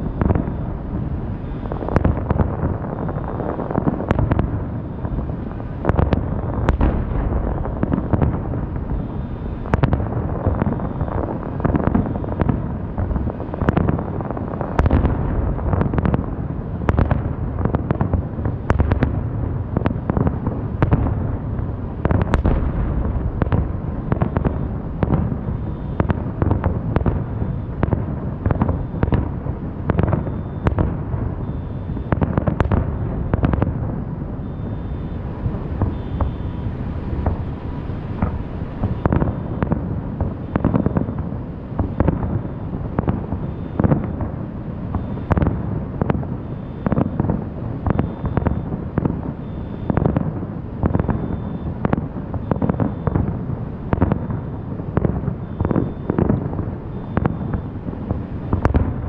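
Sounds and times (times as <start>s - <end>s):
fireworks bangs and cracks: 0.0s - 59.0s
low rumble of booms: 0.0s - 59.0s.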